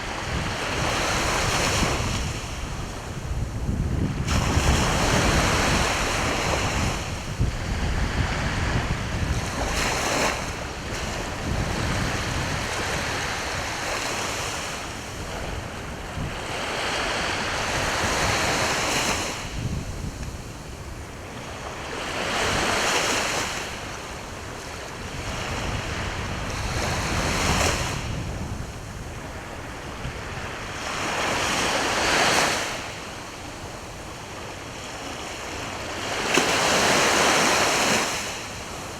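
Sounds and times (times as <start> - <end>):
wind on microphone: 0.0 - 23.9, 24.9 - 34.0
sea waves breaking on shore: 0.0 - 38.9.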